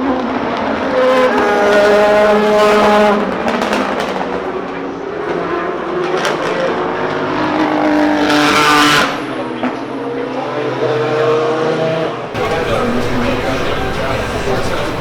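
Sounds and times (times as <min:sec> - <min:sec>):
race car engines running: 0:00.1 - 0:15.0
race car passing close: 0:00.1 - 0:15.0.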